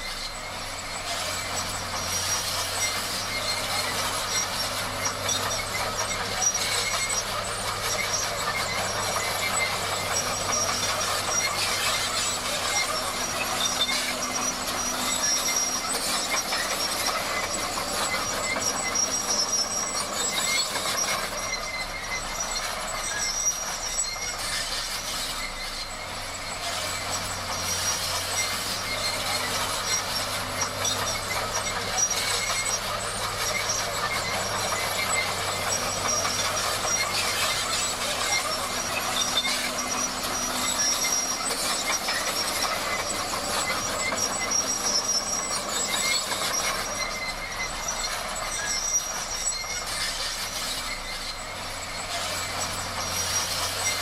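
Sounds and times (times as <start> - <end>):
bulldozer machine noise: 0.0 - 54.0
high metallic squeal: 0.0 - 54.0.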